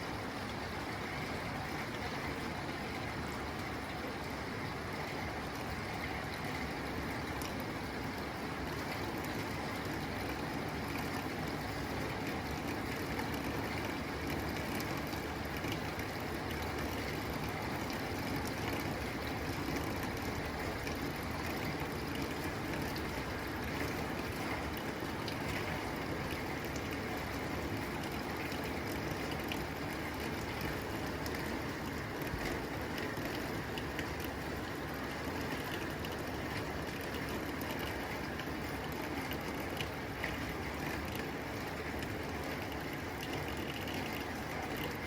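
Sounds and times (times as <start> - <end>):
rain on a tin roof: 0.0 - 45.0.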